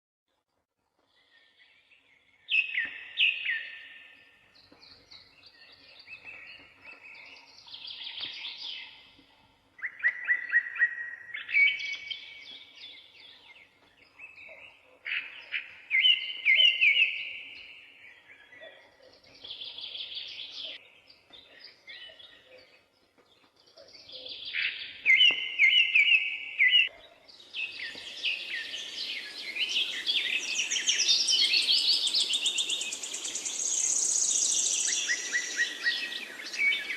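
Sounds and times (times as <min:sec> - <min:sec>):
songbirds singing: 0:01.0 - 0:36.9.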